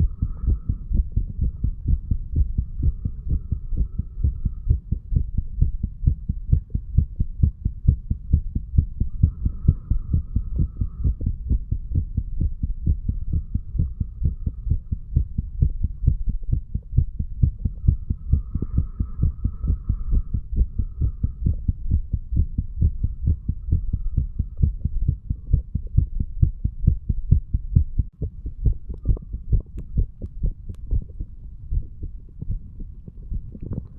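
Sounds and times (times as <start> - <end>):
heartbeat thumping: 0.0 - 33.9.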